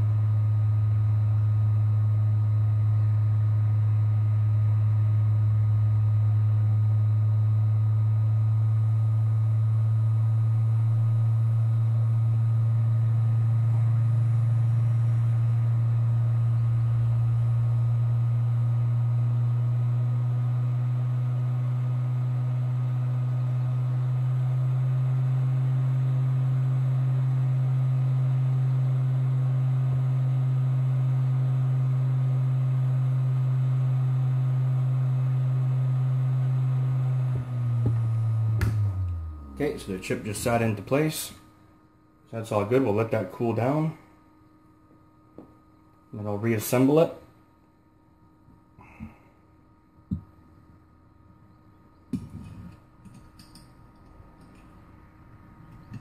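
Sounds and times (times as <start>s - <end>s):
hot air station humming: 0.0s - 44.5s, 48.4s - 56.0s.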